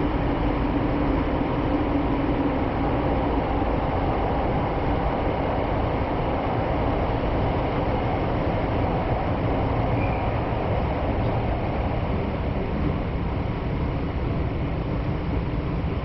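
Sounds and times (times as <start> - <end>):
train rumbling in a tunnel: 0.0 - 16.0.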